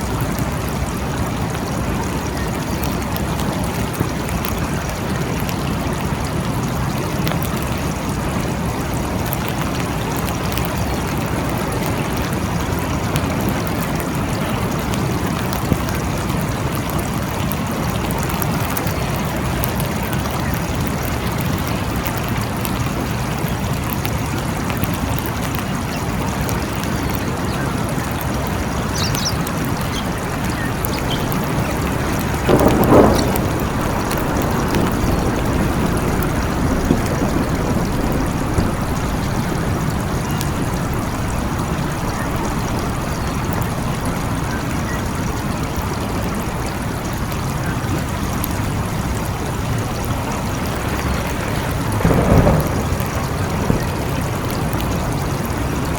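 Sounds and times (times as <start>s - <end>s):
rain drop ticks: 0.0s - 55.9s
steady rain hiss: 0.0s - 55.9s.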